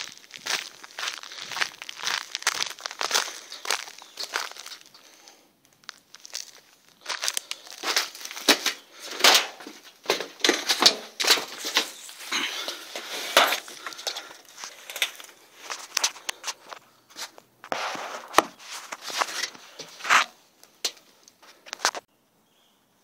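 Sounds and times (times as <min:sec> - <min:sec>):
branches rustling and twigs crackling: 0:00.0 - 0:22.1.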